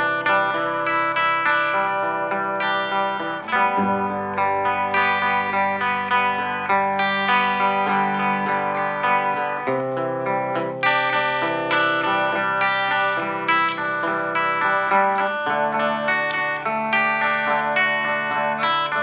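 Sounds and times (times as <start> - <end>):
electric guitar arpeggiated chords: 0.0 - 19.0.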